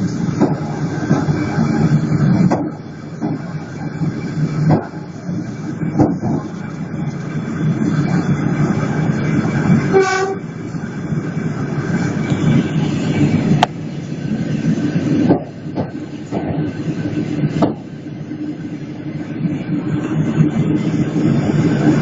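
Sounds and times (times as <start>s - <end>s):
train wheels clacking: 0.0s - 10.4s, 11.6s - 22.0s
train rumbling past: 0.0s - 22.0s.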